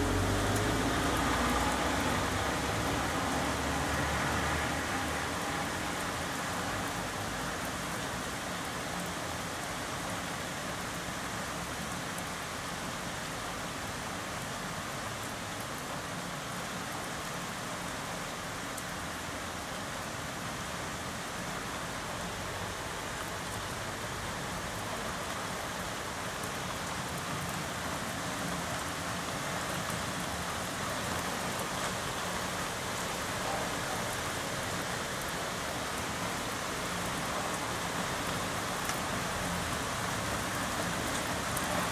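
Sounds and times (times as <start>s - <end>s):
heavy rain hissing: 0.0s - 41.9s.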